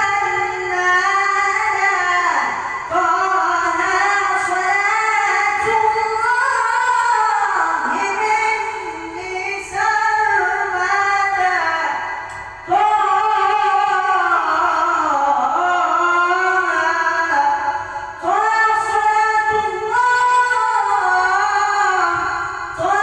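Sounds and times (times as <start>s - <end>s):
high voice chanting: 0.0s - 23.0s.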